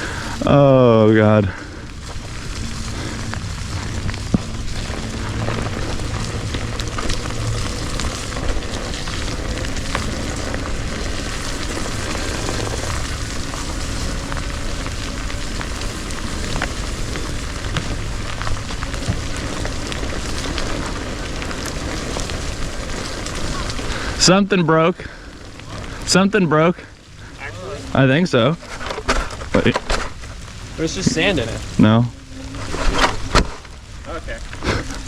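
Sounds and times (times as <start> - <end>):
wheel crackling on wet sand: 0.0 - 35.0.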